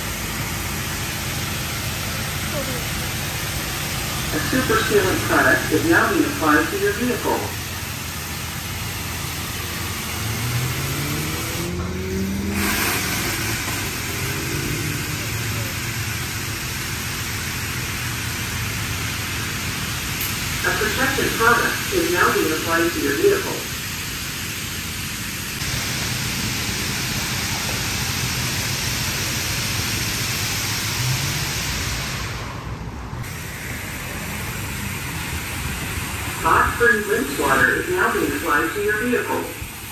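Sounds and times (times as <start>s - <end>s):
car wash motor humming: 0.0s - 39.9s
car wash spray hissing: 0.0s - 39.9s.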